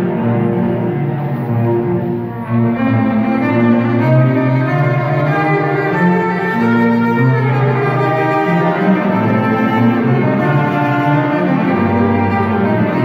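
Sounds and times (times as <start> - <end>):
cellos playing: 0.0 - 13.0
violins playing: 0.0 - 13.0.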